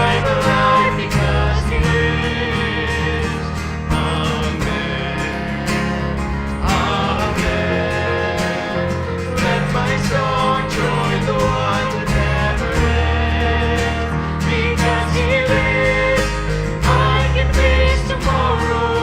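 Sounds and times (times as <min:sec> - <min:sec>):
band playing sustained chords: 0:00.0 - 0:19.0
people singing: 0:00.0 - 0:19.0.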